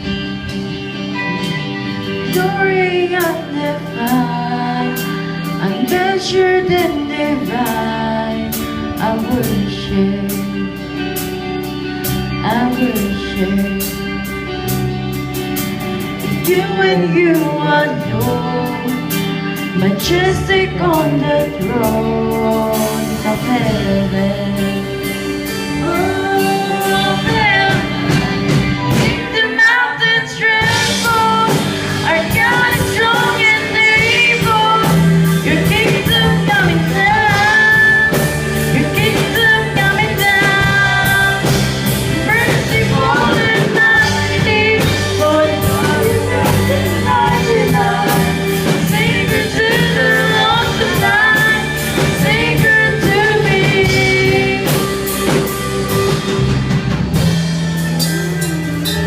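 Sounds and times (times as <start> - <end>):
acoustic worship song: 0.0 - 59.0.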